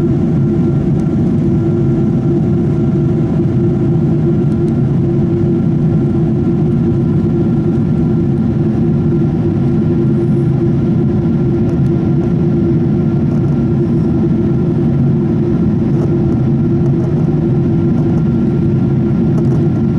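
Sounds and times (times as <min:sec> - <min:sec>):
faint constant whine: 0:00.0 - 0:19.9
jet engine and airflow drone: 0:00.0 - 0:19.9.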